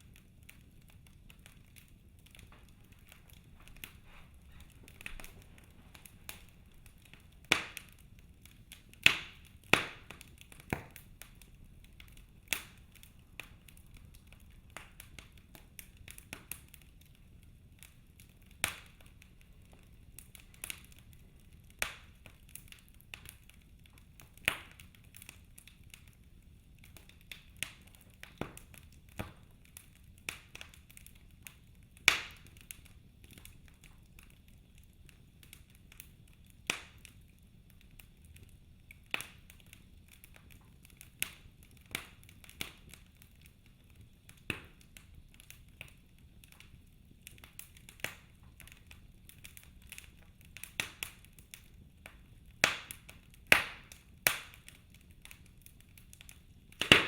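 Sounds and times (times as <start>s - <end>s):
sharp pops and snaps of fire: 0.0s - 57.0s
wood fire crackling: 0.0s - 57.0s.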